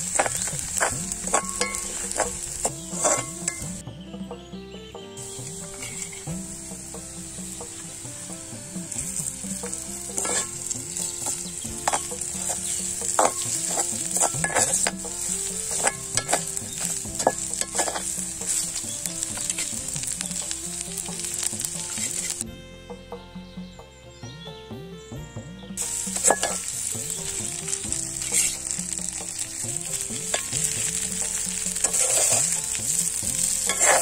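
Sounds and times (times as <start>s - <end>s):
ladle scraping pot: 0.0s - 3.8s, 5.5s - 6.5s, 7.2s - 22.4s, 25.8s - 34.0s
vegetables sizzling in hot oil: 0.0s - 3.8s, 5.2s - 22.4s, 25.8s - 34.0s.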